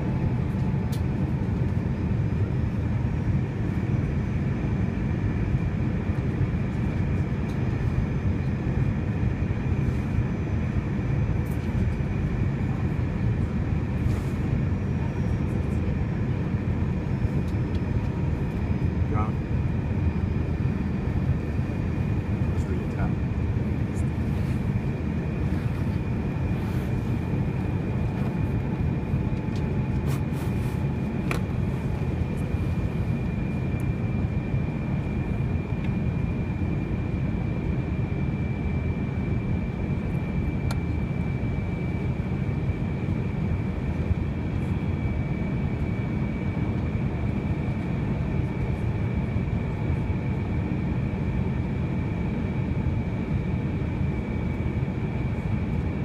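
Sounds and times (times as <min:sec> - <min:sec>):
airplane cabin engine rumble: 0:00.0 - 0:56.0
steady high whine: 0:00.0 - 0:56.0.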